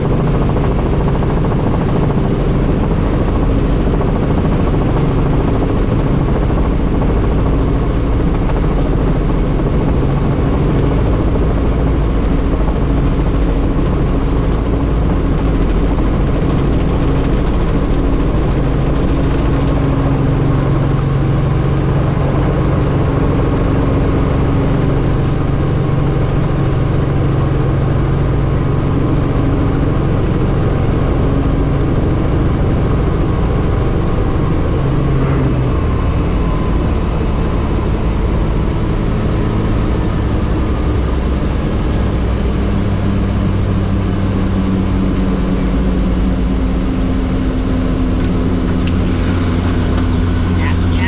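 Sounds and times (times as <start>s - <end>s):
helicopter engine and rotor drone: 0.0s - 51.0s.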